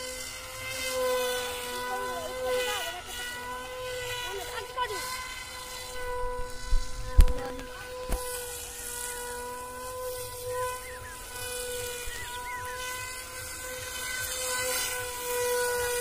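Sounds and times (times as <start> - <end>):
rc plane motor buzzing: 0.0 - 16.0.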